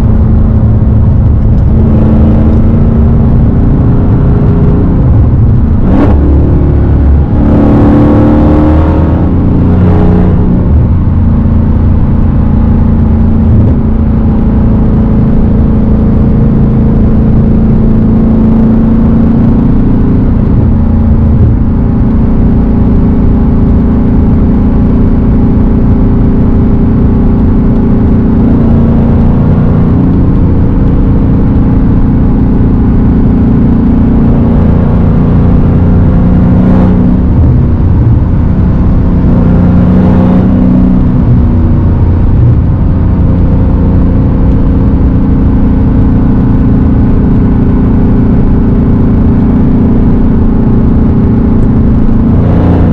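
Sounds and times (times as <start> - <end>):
loud car exhaust revving: 0.0 - 52.9.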